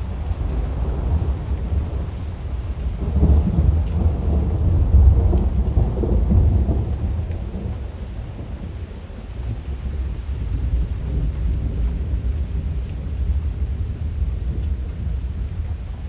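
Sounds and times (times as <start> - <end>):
rain: 0.0 - 16.0
rolling thunder: 0.0 - 16.0.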